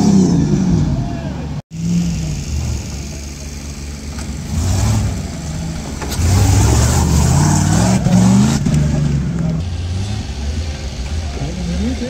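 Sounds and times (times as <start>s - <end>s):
off-road buggy engine revving: 0.0s - 12.0s.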